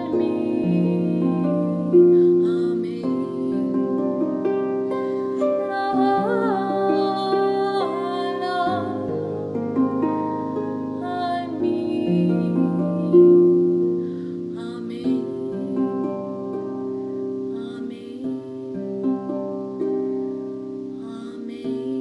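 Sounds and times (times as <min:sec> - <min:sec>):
woman singing: 0:00.0 - 0:19.4, 0:20.9 - 0:22.0
harp plucked notes and chords: 0:00.0 - 0:22.0.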